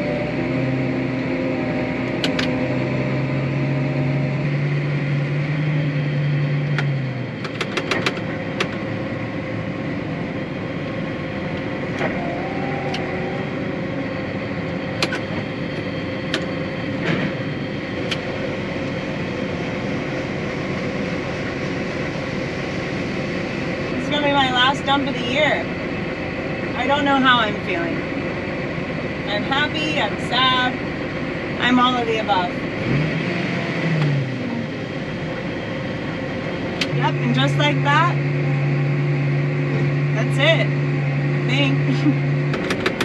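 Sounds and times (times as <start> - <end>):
combine harvester droning: 0.0 - 43.0.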